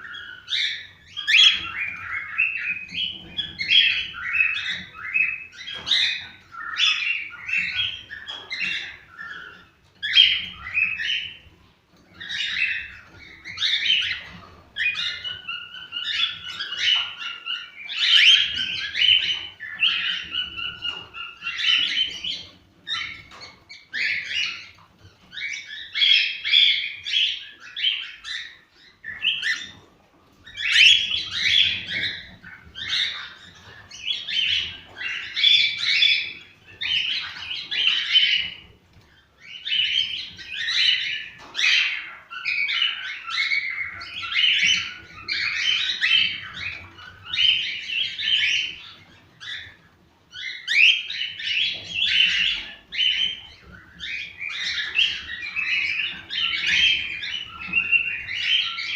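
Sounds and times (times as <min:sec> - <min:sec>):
cockatiels whistling and chirping: 0:00.0 - 0:58.9.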